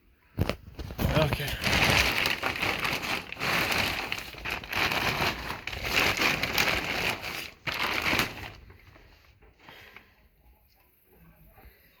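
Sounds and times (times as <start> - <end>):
crinkling and rustling: 0.3 - 10.9.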